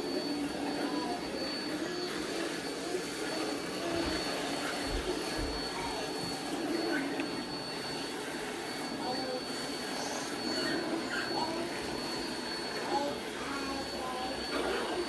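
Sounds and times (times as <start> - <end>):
robot vacuum whining: 0.0 - 15.0.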